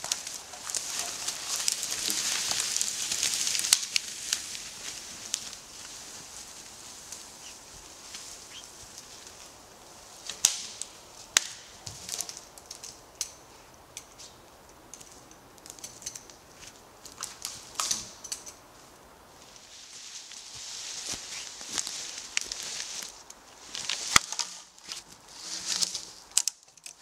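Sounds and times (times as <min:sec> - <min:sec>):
wood and branches cracking: 0:00.0 - 0:09.6, 0:10.2 - 0:13.4, 0:14.9 - 0:18.6, 0:19.4 - 0:27.0
twigs and leaf litter crackling: 0:00.0 - 0:27.0.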